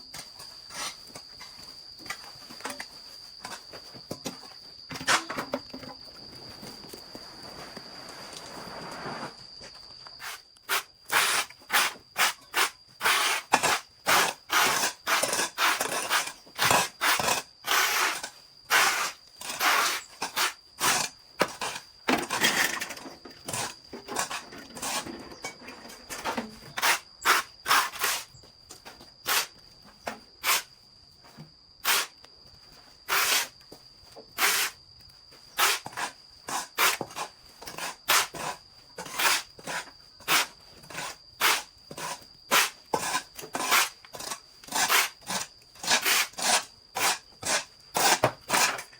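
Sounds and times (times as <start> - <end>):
hand tool scraping: 0.2 - 5.8, 6.6 - 28.4, 30.4 - 30.7, 31.8 - 32.1, 33.1 - 33.6, 34.4 - 34.8, 35.5 - 48.9.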